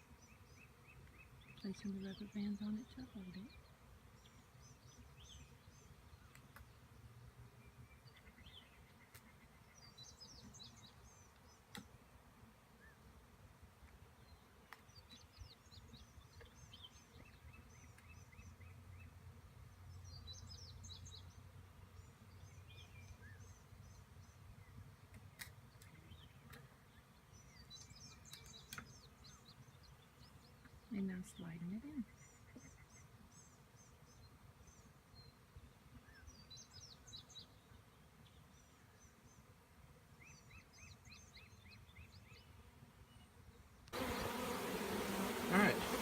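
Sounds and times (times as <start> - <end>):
small birds chirping: 0.0 - 12.1, 14.2 - 39.5, 40.2 - 46.0.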